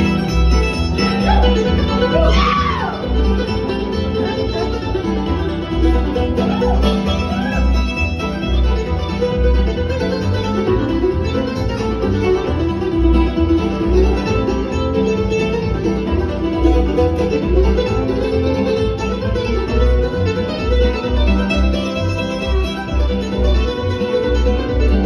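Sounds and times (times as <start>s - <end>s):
acoustic string band playing: 0.0s - 25.0s.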